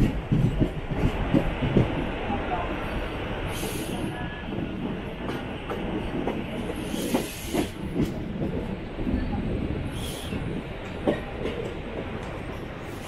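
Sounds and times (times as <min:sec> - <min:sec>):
train rumble and rattle: 0:00.0 - 0:13.0.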